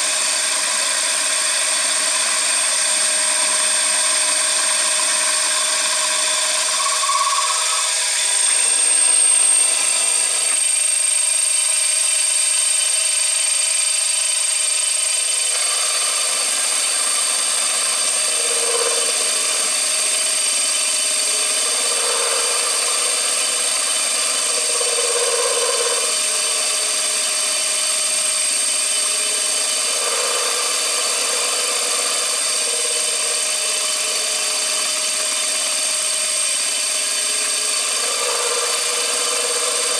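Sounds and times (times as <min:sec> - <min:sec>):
machine whine: 0:00.0 - 0:39.9.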